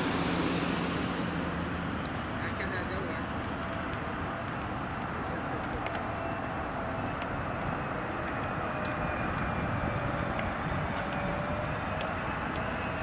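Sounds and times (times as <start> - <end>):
jet engine rumble with whine: 0.0 - 13.0.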